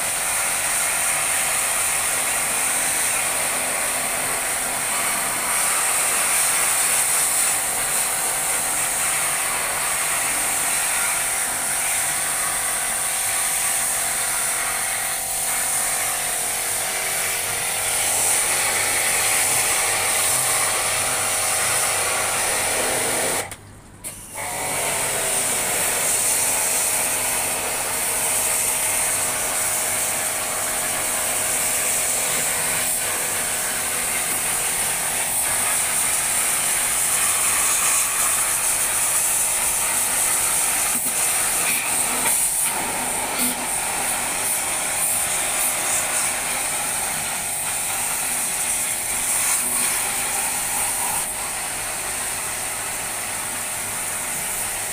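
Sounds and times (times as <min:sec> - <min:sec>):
pressure washer pump pulsing: 0:00.0 - 0:54.9
water jet hissing: 0:00.0 - 0:54.9.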